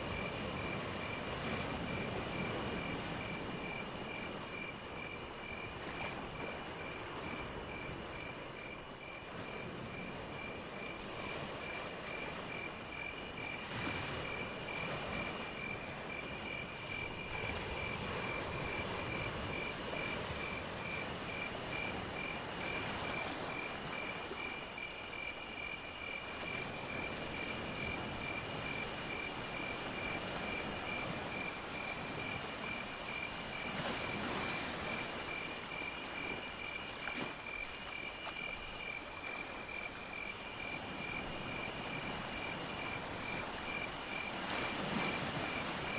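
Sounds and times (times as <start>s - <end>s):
cricket chirping steadily: 0.0s - 45.9s
high insect trill: 0.1s - 45.9s.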